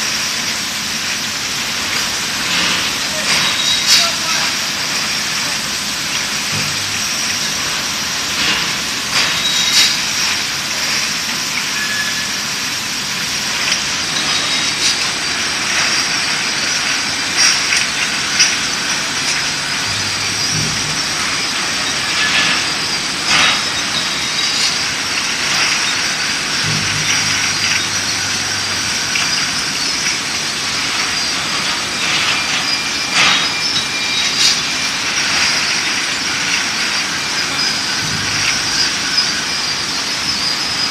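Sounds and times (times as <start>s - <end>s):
bottle washer hissing: 0.0s - 40.9s
glass bottles clinking: 0.0s - 40.9s.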